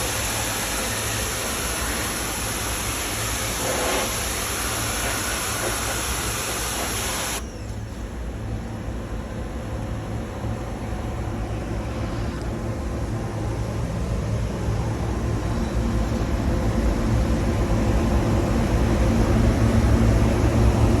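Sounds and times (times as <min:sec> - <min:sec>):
machinery rumbling with hiss: 0:00.0 - 0:21.0.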